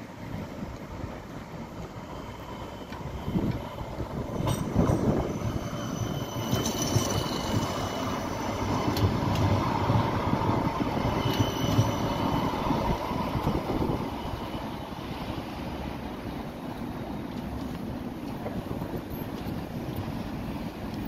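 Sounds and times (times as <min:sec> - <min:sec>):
high tram whine: 0:00.0 - 0:21.0
tram wheels rumbling on rail: 0:00.0 - 0:21.0.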